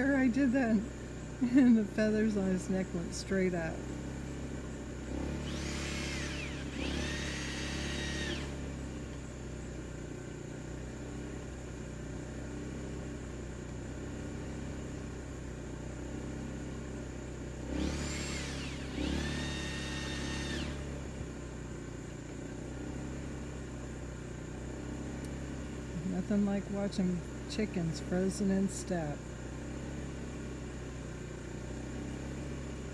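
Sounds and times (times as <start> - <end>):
generator humming: 0.0 - 32.9.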